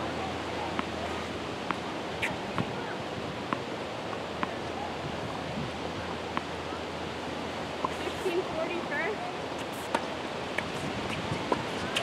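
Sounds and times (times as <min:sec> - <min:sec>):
wind-like noise: 0:00.0 - 0:12.0.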